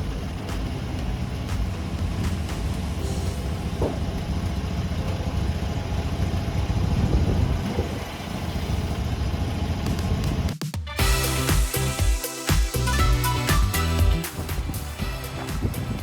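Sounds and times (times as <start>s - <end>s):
bandsaw sawmill engine droning: 0.0s - 16.0s.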